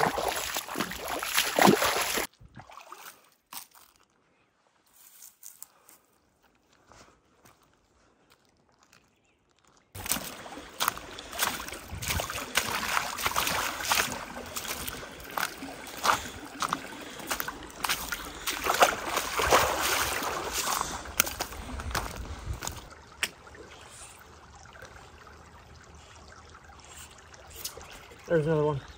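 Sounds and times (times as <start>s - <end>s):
water splashing and sloshing: 0.0s - 4.0s, 9.5s - 28.9s.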